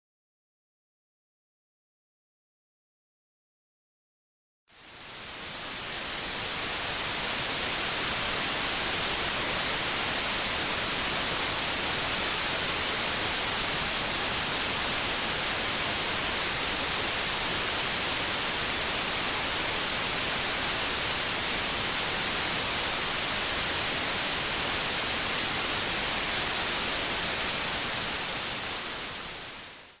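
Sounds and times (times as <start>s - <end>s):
white noise hiss: 4.7s - 30.0s.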